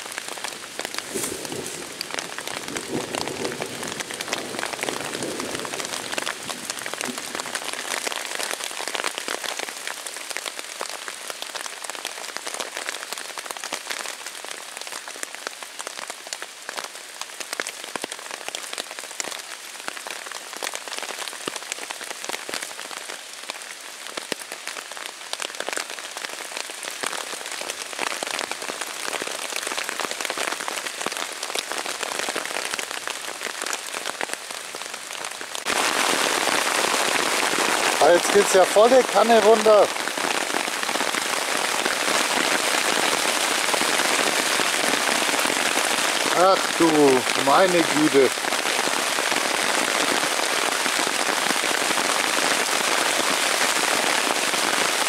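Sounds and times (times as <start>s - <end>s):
heavy rain on a tarp: 0.0s - 55.0s.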